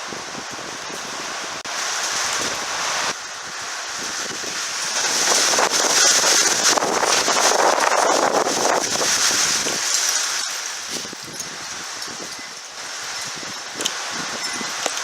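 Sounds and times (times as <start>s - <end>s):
storm wind gusting: 0.0s - 14.9s
wind buffeting microphone: 0.0s - 15.0s.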